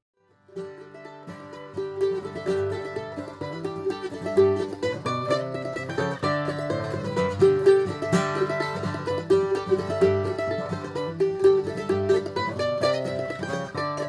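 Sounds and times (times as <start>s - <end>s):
plucked string instrument tune: 0.2s - 14.0s.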